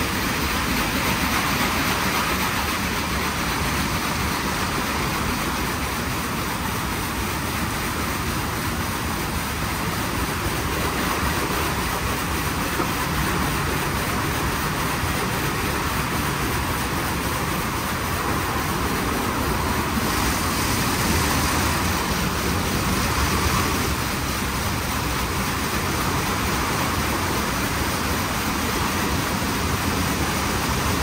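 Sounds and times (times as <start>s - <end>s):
car wash rushing noise: 0.0s - 31.0s.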